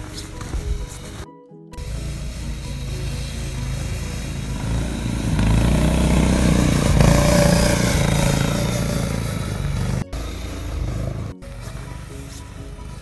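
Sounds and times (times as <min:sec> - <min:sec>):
snowmobile engine passing: 0:01.8 - 0:13.0.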